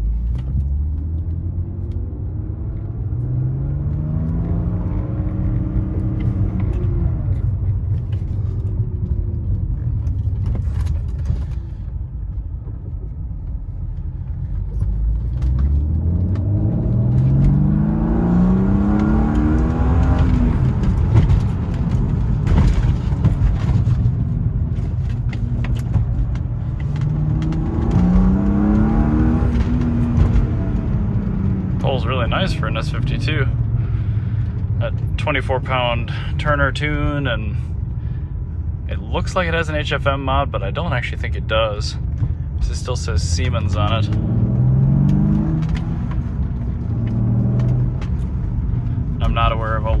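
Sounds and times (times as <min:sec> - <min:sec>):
car engine accelerating: 0:00.0 - 0:50.0.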